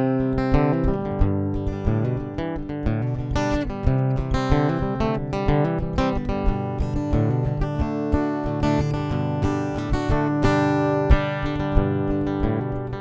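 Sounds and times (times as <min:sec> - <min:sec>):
picked country guitar: 0:00.0 - 0:13.0.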